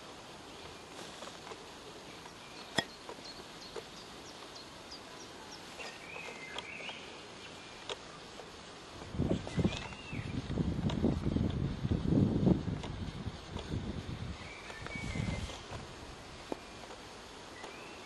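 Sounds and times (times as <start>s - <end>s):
small birds chirping: 0.0s - 11.6s, 12.9s - 18.0s
outdoor background hum: 0.0s - 18.0s.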